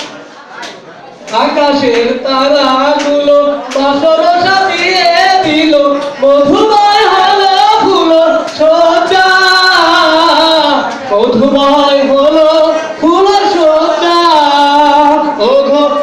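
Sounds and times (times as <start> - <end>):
person singing love song: 1.3 - 16.0.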